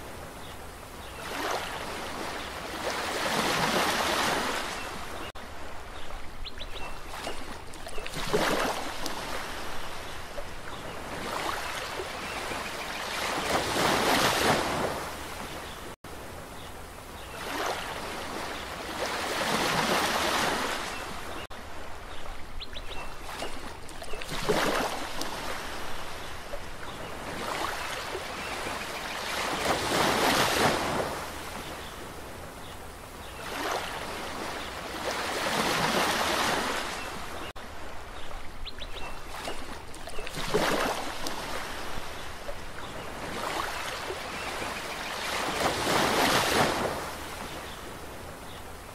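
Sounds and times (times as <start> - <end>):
ocean waves breaking: 0.0 - 6.1, 6.7 - 16.4, 17.2 - 38.3, 39.0 - 48.9.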